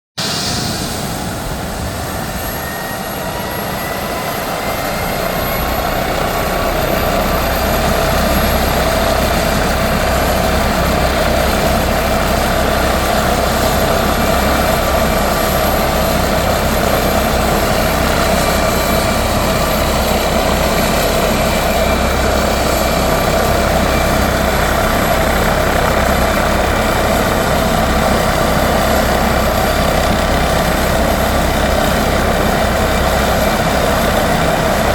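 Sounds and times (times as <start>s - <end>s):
helicopter turbine and rotor whine: 0.2s - 34.9s.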